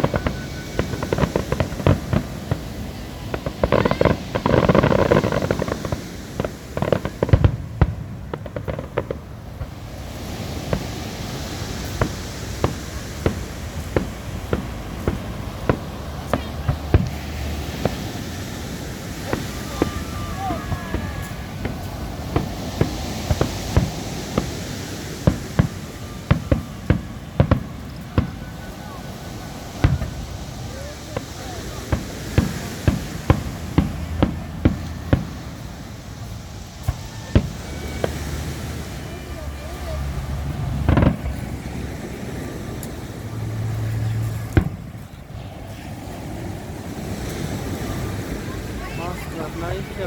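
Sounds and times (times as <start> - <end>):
fireworks bangs and crackles: 0.0 - 50.0
steady background noise: 0.0 - 50.0.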